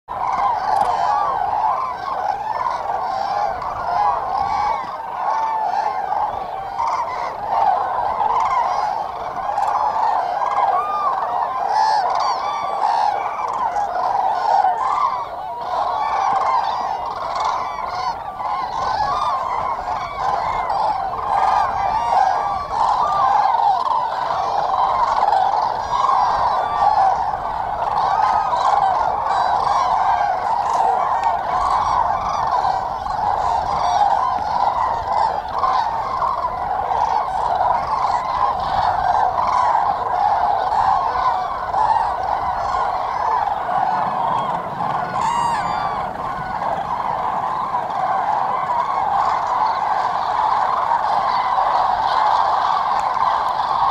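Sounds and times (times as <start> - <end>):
cranes trumpeting: 0.1 - 53.9.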